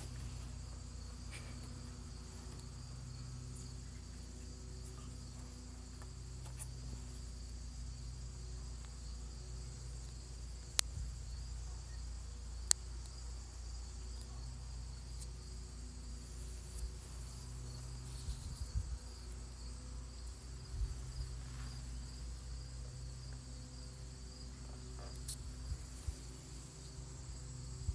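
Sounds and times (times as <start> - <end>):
insect chorus trilling: 0.0 - 27.9.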